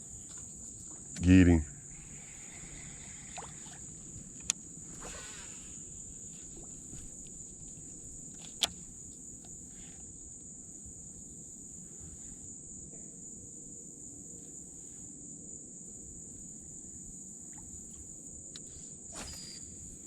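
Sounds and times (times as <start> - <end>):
cicadas droning: 0.0 - 20.0.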